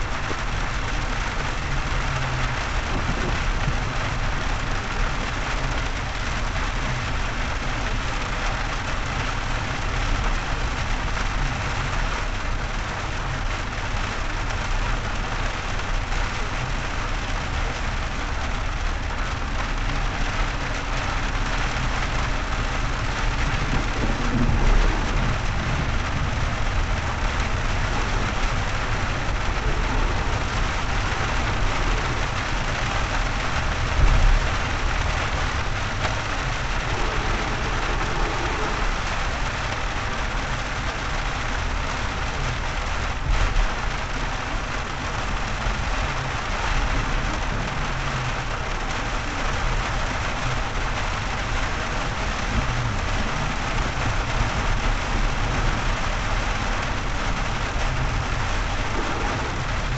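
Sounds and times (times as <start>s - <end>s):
rain on a car: 0.0s - 59.9s
road and engine noise: 0.0s - 59.9s.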